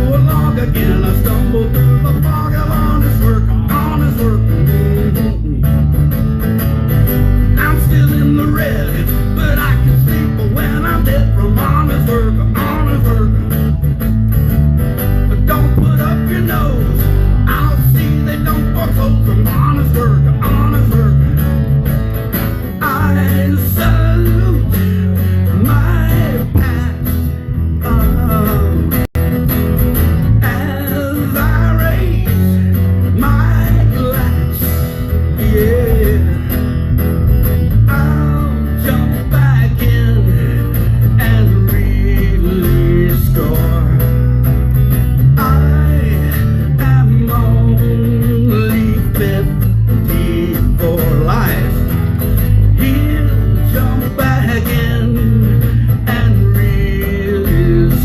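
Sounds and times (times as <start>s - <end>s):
bending lead guitar melody: 0.0s - 58.0s
strummed guitar chords: 0.0s - 58.0s.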